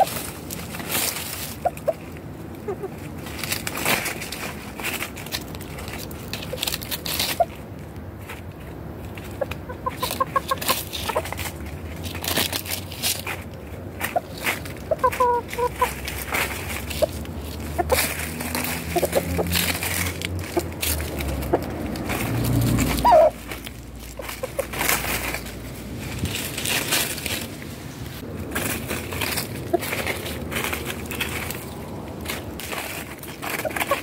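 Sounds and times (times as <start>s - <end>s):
chickens clucking: 0.0s - 3.8s, 8.8s - 27.6s, 28.5s - 34.0s.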